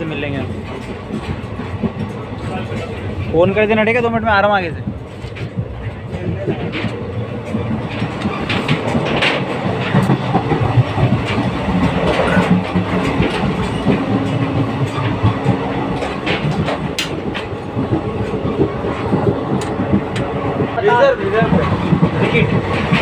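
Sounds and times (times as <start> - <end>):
sharp track clacks: 0.0 - 23.0
train wheels rumbling on track: 0.0 - 23.0.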